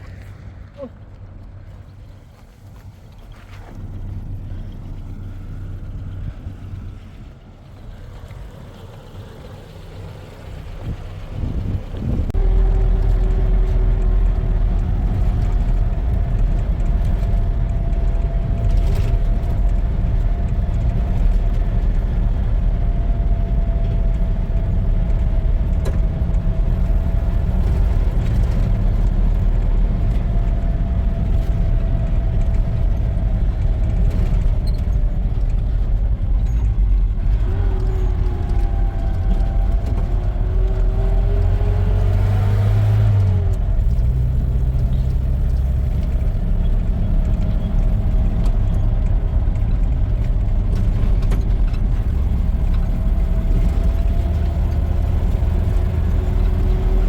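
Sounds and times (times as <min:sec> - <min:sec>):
engine low rumble: 0:00.0 - 0:57.0.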